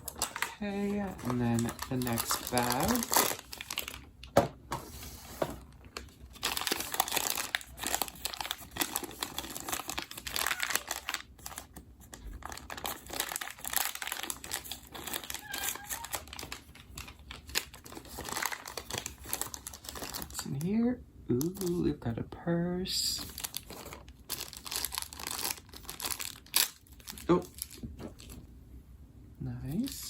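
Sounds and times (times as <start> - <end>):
packaging bag crinkling: 0.0 - 4.4, 5.6 - 20.6, 23.2 - 28.4.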